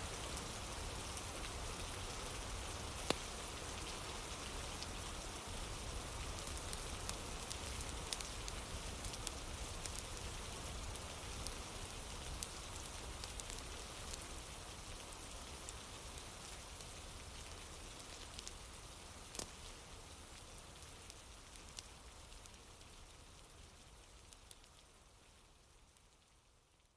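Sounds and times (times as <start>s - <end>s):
steady rain: 0.0s - 26.9s.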